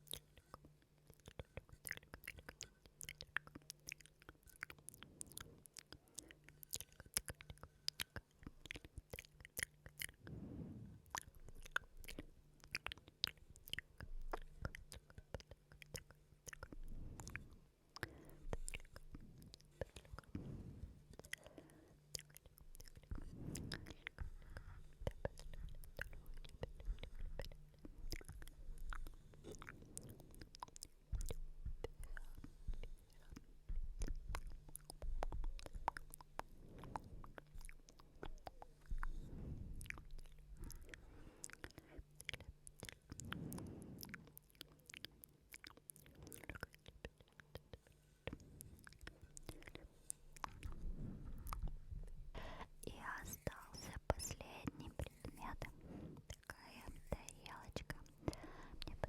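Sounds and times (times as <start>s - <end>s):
wet mouth clicks and smacks: 0.0s - 10.2s, 11.1s - 20.4s, 21.1s - 59.0s.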